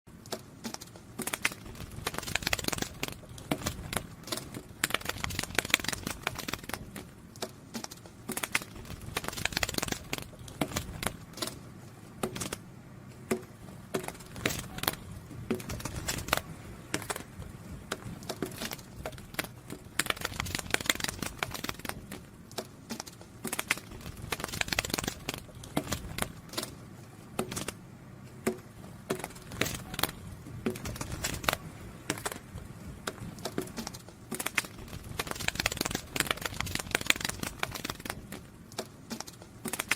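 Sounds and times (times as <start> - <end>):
wing flutter clicks and crackles: 0.1 - 39.9.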